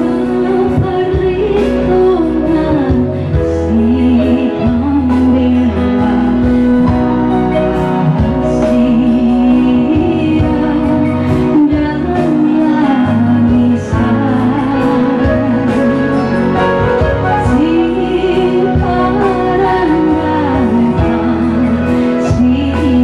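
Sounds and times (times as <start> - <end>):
keyboard playing chords and bass: 0.0 - 23.0
woman singing with vibrato: 0.0 - 23.0.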